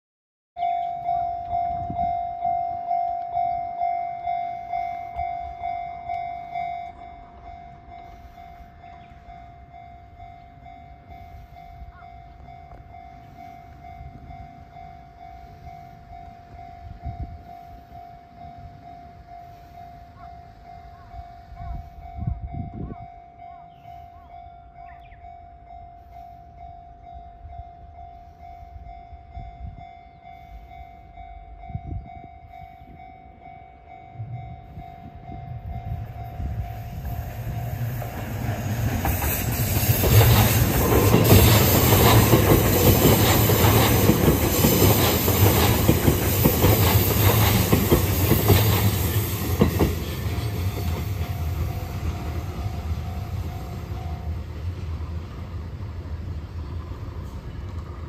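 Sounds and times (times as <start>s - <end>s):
level crossing warning bell: 0.6s - 54.6s
electric train passing: 0.6s - 58.0s.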